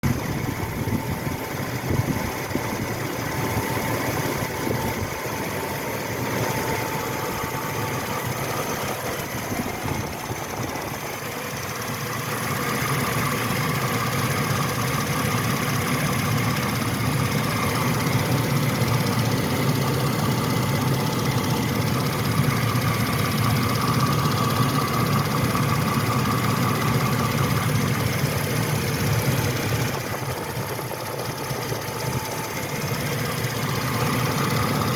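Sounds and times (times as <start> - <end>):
engine idling: 0.0 - 34.9
ticking from engine bay: 0.1 - 34.9.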